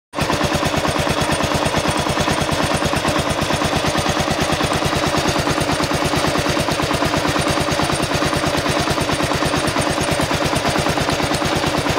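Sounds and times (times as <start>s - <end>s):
motorcycle engine idling with clacking: 0.1s - 11.9s.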